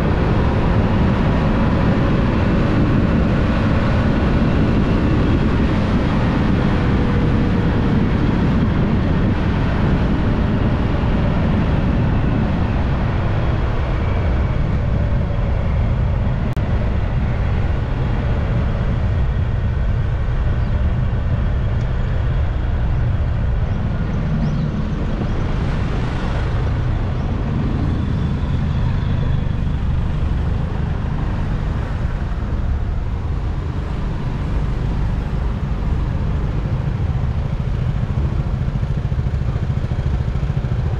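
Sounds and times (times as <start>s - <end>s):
motorbike engine rumble: 0.0s - 40.9s
wind noise: 0.0s - 40.9s.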